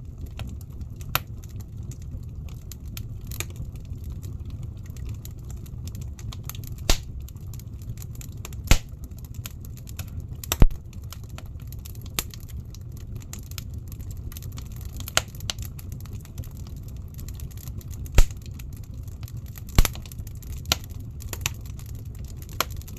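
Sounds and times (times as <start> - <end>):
burning logs crackling and popping: 0.0 - 22.9
fire flames rumbling: 0.0 - 22.9.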